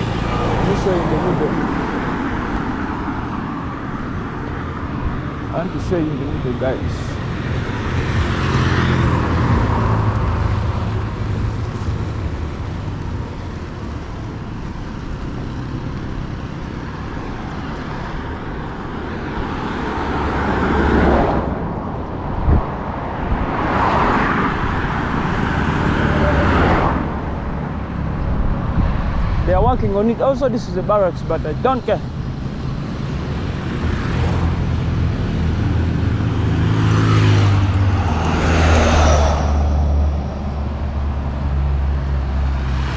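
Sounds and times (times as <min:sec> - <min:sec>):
traffic rumble: 0:00.0 - 0:42.9
vehicles passing close by: 0:00.0 - 0:42.9.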